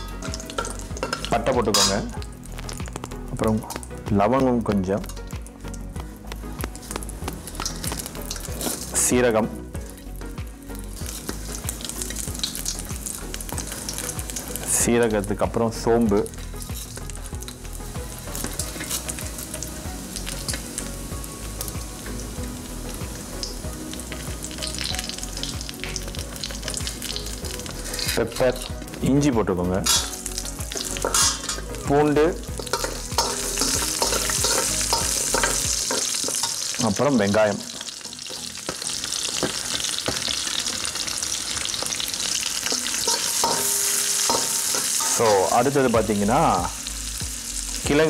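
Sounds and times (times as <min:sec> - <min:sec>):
spices sizzling in hot oil: 0:00.0 - 0:48.0.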